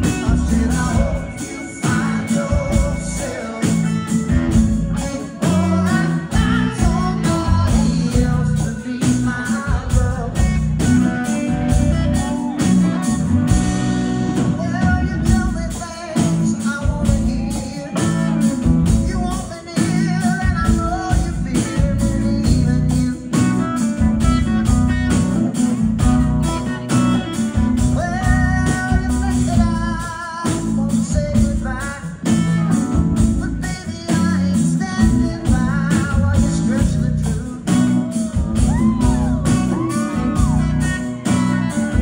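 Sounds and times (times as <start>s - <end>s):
bass: 0.0s - 42.0s
drums: 0.0s - 42.0s
electric guitar: 0.0s - 42.0s
live rock band playing: 0.0s - 42.0s.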